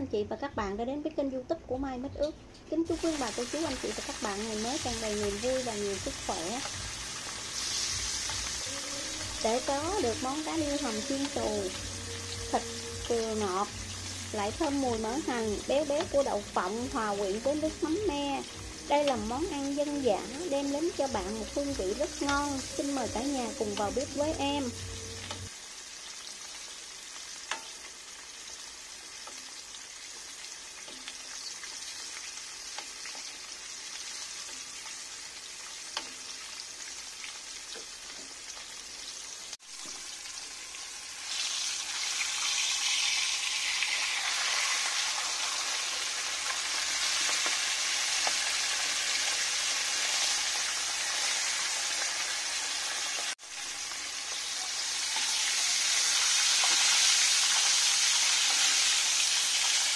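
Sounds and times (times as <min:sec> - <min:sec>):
hot oil sizzling: 0:01.8 - 0:59.9.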